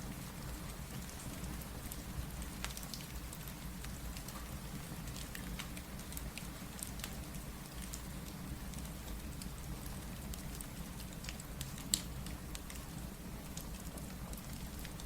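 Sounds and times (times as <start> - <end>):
crackling fireplace: 0.0 - 15.0
steady rain: 0.0 - 15.0.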